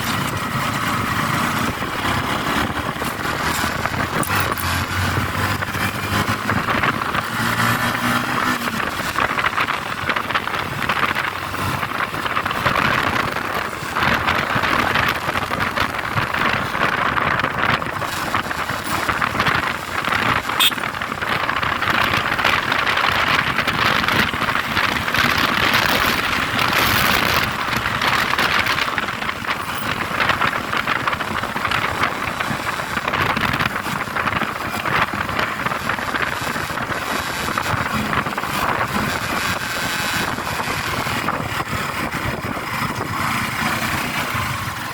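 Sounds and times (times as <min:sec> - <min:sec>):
road noise from moving vehicle: 0:00.0 - 0:44.9.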